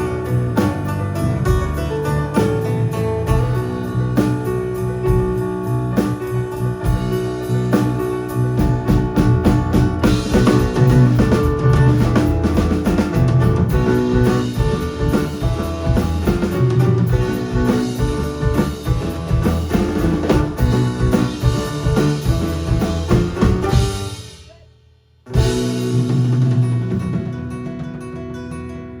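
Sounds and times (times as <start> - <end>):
live band music: 0.0 - 24.7, 25.3 - 28.2.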